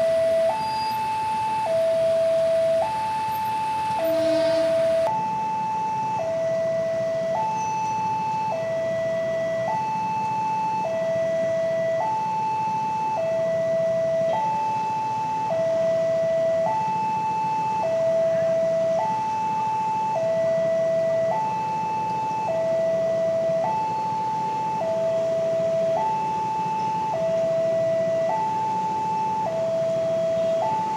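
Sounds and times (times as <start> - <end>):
two-tone crossing alarm: 0.0 - 30.9.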